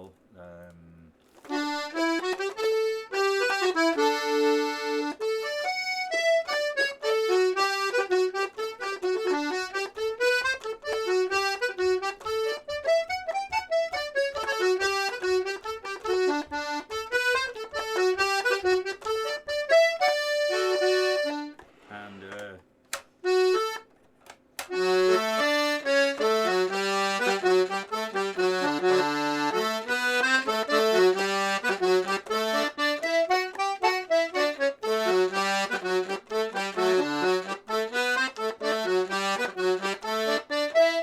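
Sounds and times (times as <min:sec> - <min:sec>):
button accordion playing: 0:01.4 - 0:41.0.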